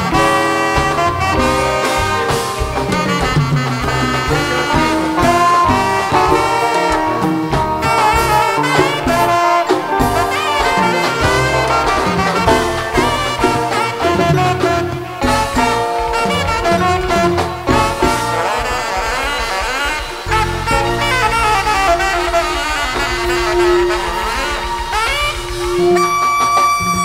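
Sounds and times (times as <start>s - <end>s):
live dance band playing: 0.0s - 27.0s.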